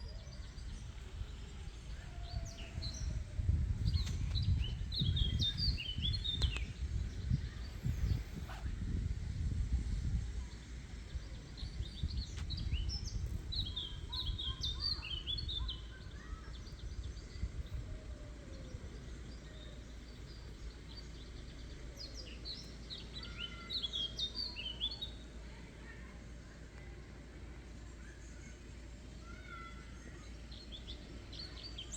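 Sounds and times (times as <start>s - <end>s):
songbird chirping: 0.0s - 8.6s, 9.9s - 31.9s
low outdoor rumble: 0.0s - 31.9s.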